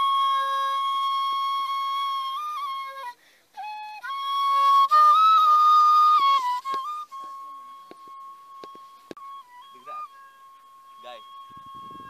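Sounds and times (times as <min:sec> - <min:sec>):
bamboo flute slow melody: 0:00.0 - 0:12.0.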